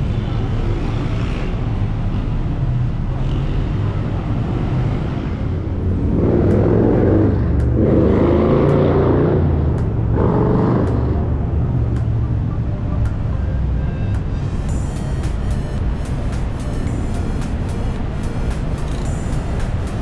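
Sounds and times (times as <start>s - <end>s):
traffic rumble: 0.0s - 20.0s
vehicles passing close: 0.0s - 20.0s.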